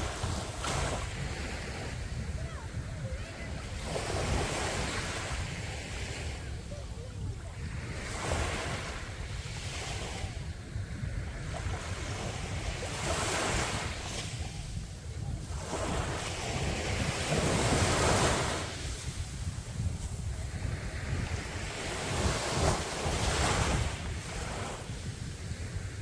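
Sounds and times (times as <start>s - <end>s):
sea waves washing onto beach: 0.0s - 26.0s
wind rumble on microphone: 0.0s - 26.0s.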